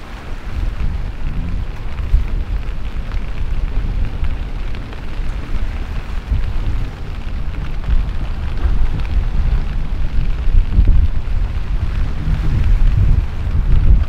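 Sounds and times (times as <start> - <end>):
waves breaking: 0.0 - 14.0
wind buffeting microphone: 0.0 - 14.0.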